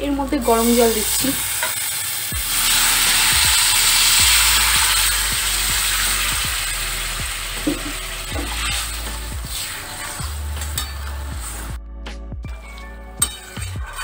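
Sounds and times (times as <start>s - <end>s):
water sizzling in hot pan: 0.0s - 11.8s.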